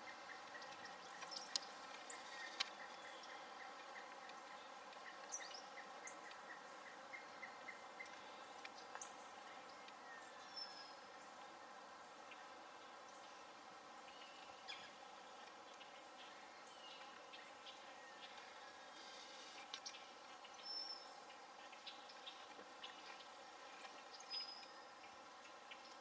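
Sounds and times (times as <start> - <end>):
faint songbird chirping: 0.0 - 26.0
steady outdoor hiss: 0.0 - 26.0.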